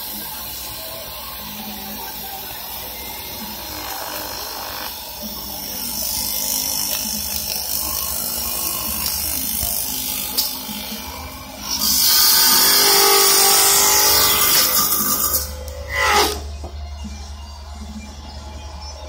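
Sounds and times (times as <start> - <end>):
cutter shaving wood: 0.0 - 16.8.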